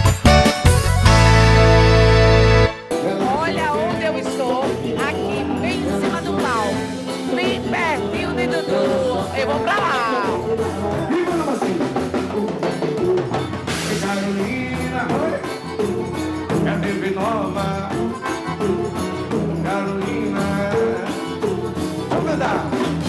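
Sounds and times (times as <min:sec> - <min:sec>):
accordion melody: 0:00.0 - 0:23.0
percussion beat: 0:00.0 - 0:23.0.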